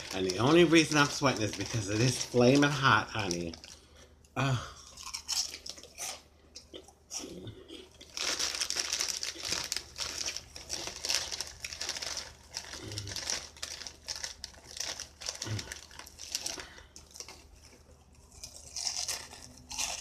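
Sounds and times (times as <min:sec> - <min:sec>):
plastic snack bag crinkling: 0:00.0 - 0:04.2, 0:04.8 - 0:06.8, 0:07.7 - 0:20.0
crunchy snacks being chewed: 0:00.0 - 0:20.0.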